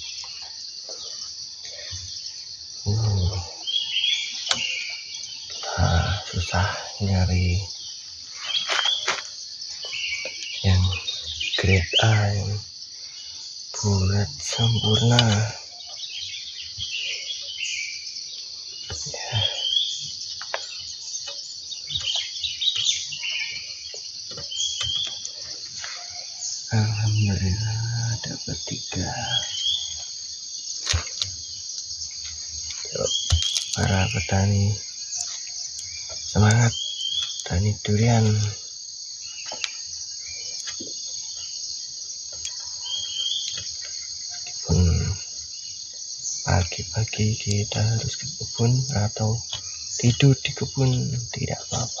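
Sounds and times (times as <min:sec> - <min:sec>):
birds chirping: 0:00.0 - 0:52.0
high-pitched insect buzz: 0:00.0 - 0:52.0.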